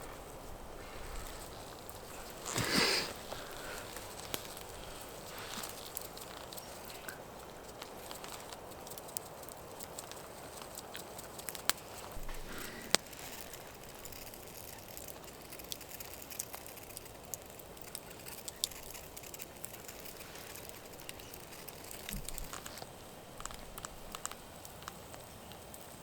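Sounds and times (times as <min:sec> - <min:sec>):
campfire crackling: 0:00.0 - 0:26.0
soft steady hiss: 0:00.0 - 0:26.0.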